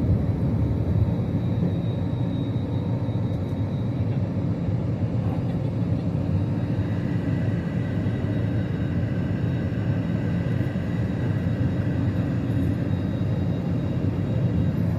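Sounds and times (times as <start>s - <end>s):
faint high whine: 0.0s - 14.9s
jet engines low rumble: 0.0s - 14.9s.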